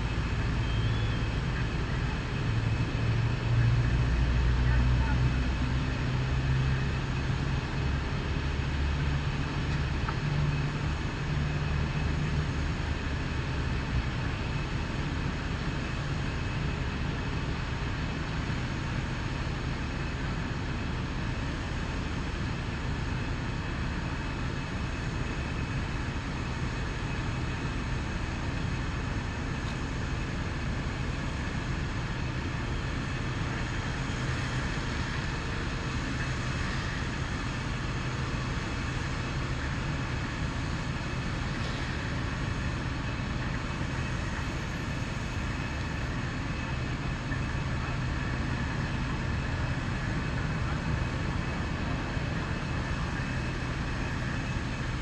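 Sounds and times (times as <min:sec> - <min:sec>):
fire truck engines rumbling: 0:00.0 - 0:55.0.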